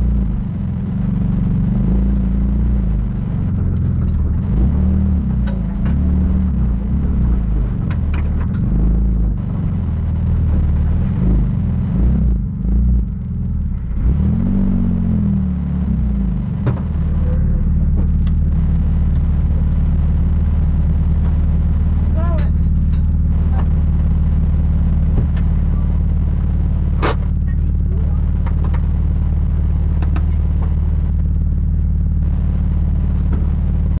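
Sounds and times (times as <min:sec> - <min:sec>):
car engine heard from inside: 0:00.0 - 0:34.0.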